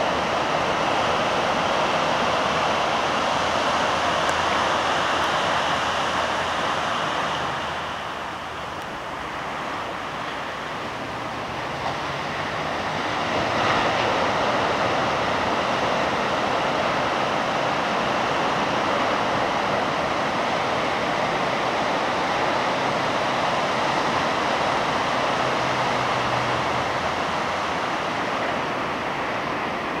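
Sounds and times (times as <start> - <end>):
ocean surf breaking on beach: 0.0 - 30.0.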